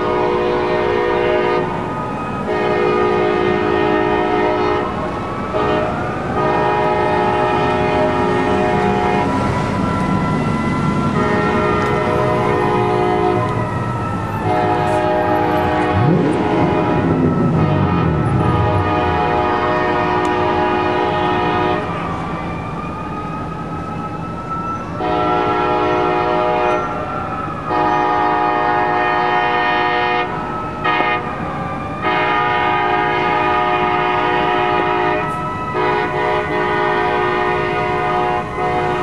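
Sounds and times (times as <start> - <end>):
locomotive air horn blasts: 0.0 - 9.4, 11.1 - 22.0, 25.0 - 27.0, 27.7 - 31.4, 32.0 - 39.0
mechanical siren wailing: 0.0 - 39.0.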